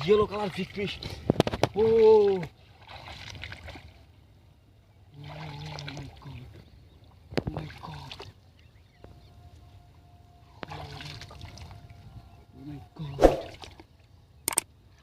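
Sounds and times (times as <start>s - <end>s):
water sloshing and trickling: 0.0s - 15.0s.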